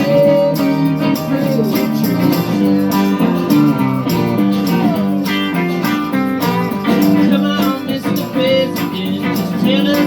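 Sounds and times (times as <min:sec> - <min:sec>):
light percussion: 0:00.0 - 0:10.0
strummed guitars: 0:00.0 - 0:10.0.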